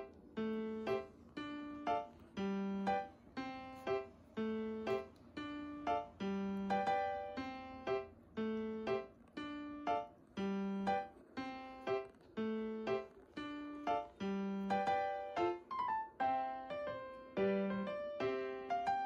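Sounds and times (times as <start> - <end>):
simple piano melody: 0.0 - 19.0.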